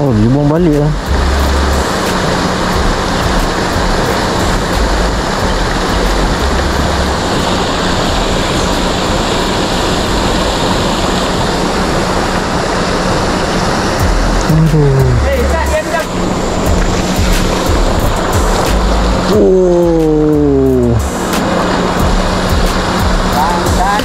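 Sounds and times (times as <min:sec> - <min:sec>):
water rushing and splashing: 0:00.0 - 0:24.0.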